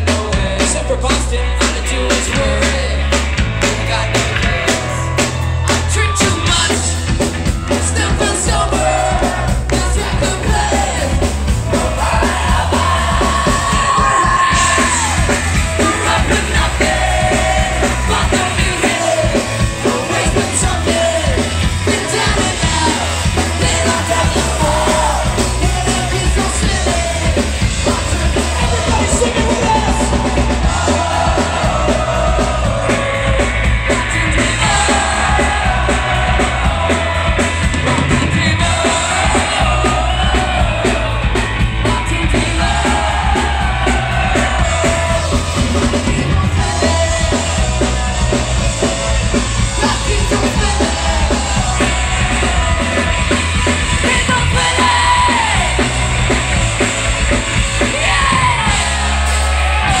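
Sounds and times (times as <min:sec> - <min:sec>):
bass guitar: 0:00.0 - 1:00.0
drum kit beat: 0:00.0 - 1:00.0
singer singing and shouting: 0:00.0 - 1:00.0.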